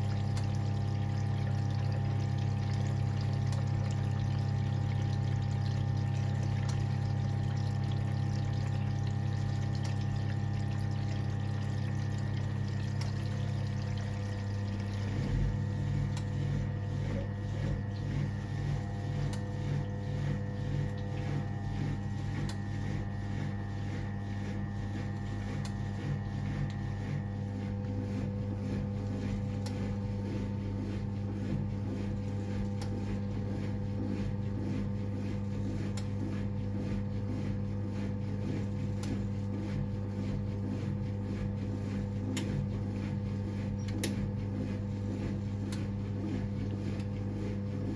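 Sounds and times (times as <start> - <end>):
washing machine humming: 0.0 - 47.9.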